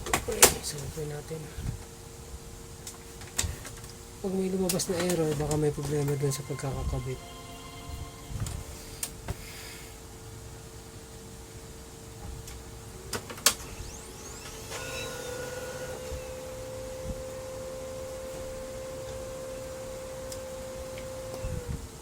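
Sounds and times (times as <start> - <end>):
printer motor humming: 0.0 - 9.4, 11.7 - 22.0.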